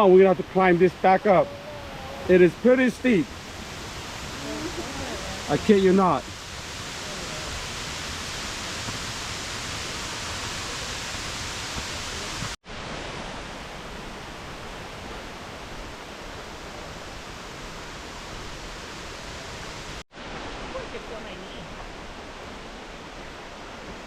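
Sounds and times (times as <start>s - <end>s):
waterfall rushing: 0.1s - 24.0s.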